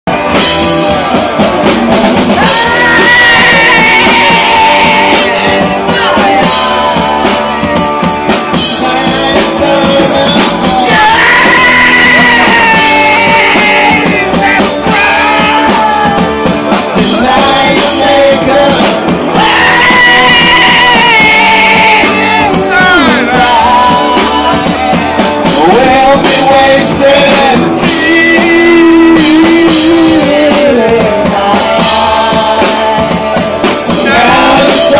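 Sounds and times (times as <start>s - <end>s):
rock band playing: 0.1s - 34.9s
singer holding long notes: 2.2s - 34.9s.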